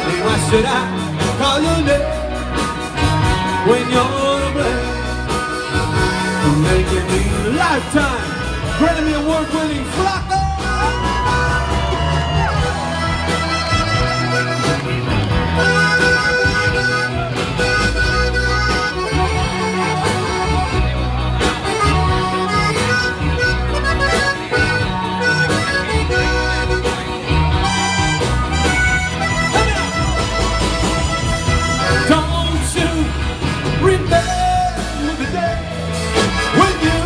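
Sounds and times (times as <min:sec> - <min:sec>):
button accordion melody: 0:00.0 - 0:09.6, 0:12.8 - 0:33.5, 0:34.1 - 0:37.0
band playing instrumental: 0:00.0 - 0:37.0.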